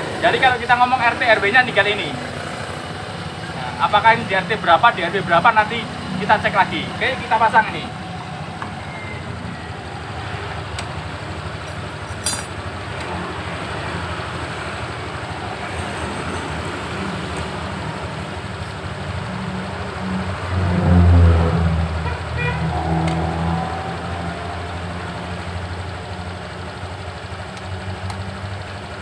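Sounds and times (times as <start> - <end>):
scooter engine idling: 0.0 - 20.2, 23.8 - 29.0.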